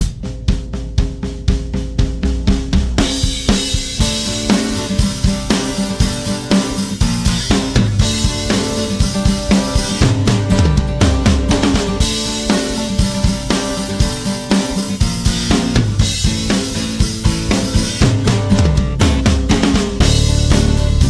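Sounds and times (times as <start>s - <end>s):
music with drum-kit beat: 0.0s - 21.0s.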